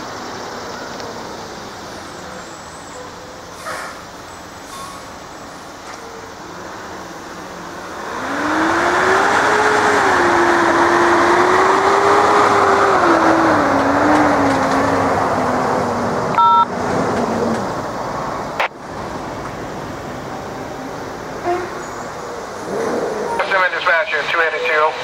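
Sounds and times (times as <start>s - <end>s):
heavy vehicle passing: 0.0s - 25.0s.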